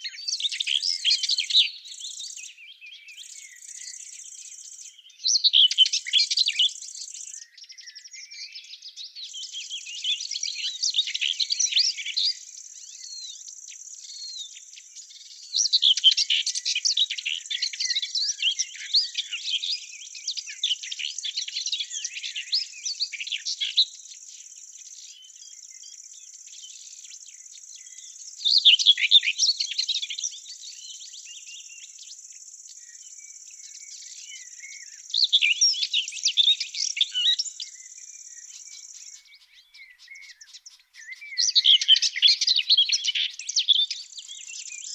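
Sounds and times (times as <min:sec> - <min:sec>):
small birds twittering: 0:00.0 - 0:44.9.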